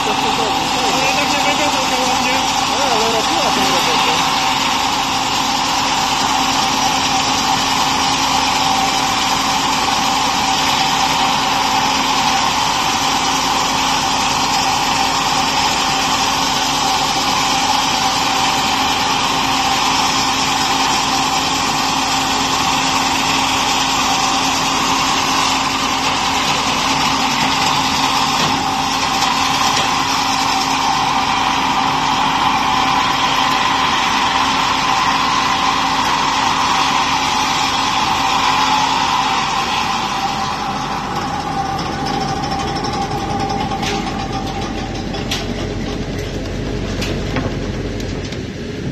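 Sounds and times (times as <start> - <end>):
rip saw running: 0.0 - 48.9.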